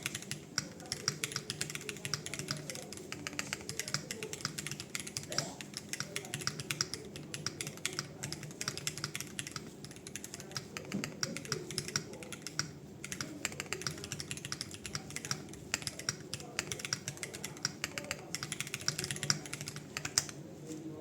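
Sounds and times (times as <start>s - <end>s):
mechanical keyboard typing: 0.0s - 20.4s.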